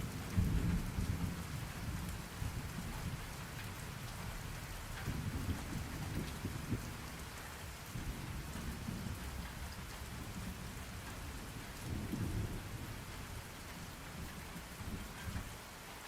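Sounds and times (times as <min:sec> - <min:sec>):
thunder rumbling: 0:00.0 - 0:07.3, 0:07.9 - 0:15.5
steady rain: 0:00.0 - 0:16.0.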